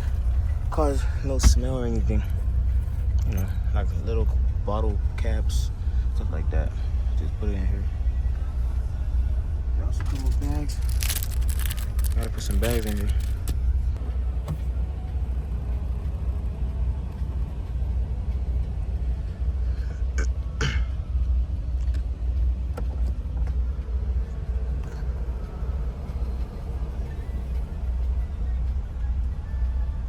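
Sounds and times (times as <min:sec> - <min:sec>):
diesel truck engine rumble: 0:00.0 - 0:30.0.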